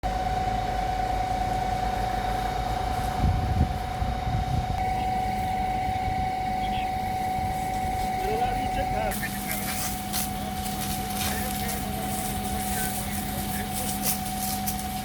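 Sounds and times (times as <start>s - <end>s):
engine running with high whine: 0.0s - 15.0s.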